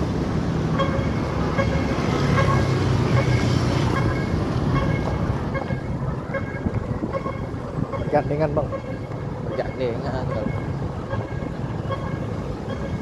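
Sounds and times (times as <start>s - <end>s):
tyres on road: 0.0s - 13.0s
vehicle engines running: 0.0s - 13.0s.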